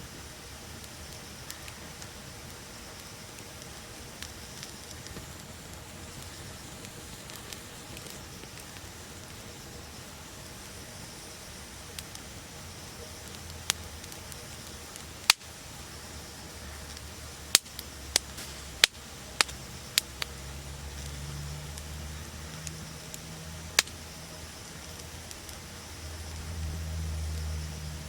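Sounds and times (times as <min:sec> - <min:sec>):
sharp pops of fire: 0:00.0 - 0:26.5
bonfire crackling: 0:00.0 - 0:28.0.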